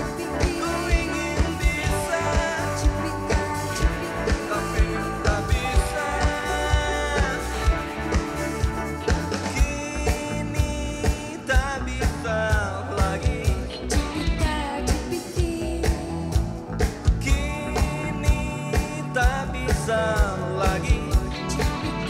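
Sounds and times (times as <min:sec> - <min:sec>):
drum kit beat: 0:00.0 - 0:22.0
electric guitars: 0:00.0 - 0:22.0
sung vocals: 0:00.0 - 0:22.0.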